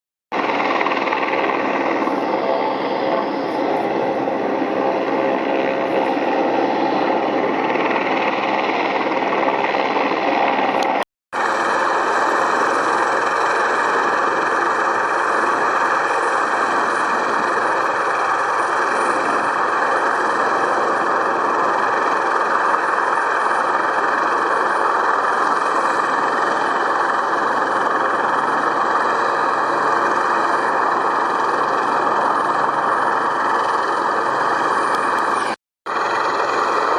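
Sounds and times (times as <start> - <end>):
helicopter rotor noise: 0.3 - 36.9
helicopter turbine engines whining: 0.3 - 36.9.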